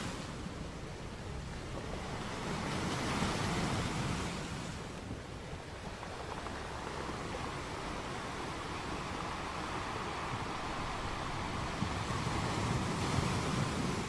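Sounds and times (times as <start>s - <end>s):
sea surf washing on shore: 0.0s - 14.0s.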